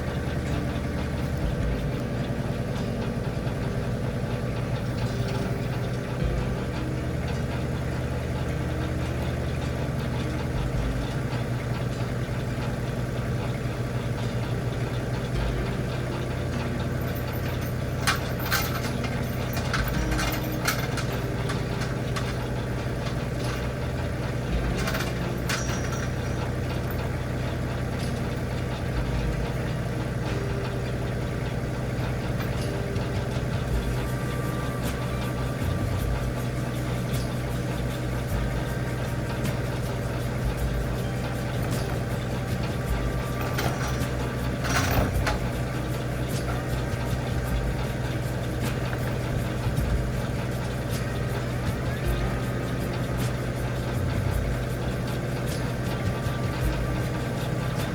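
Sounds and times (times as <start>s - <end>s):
clanks and rattles: 0.0s - 57.9s
tractor engine idling: 0.0s - 57.9s.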